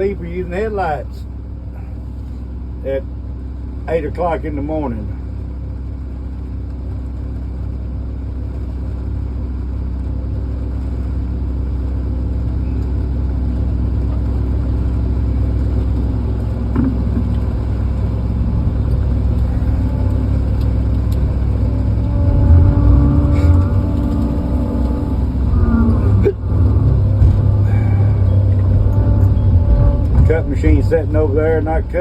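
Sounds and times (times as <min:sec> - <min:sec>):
heavy engine running: 0:00.0 - 0:32.0.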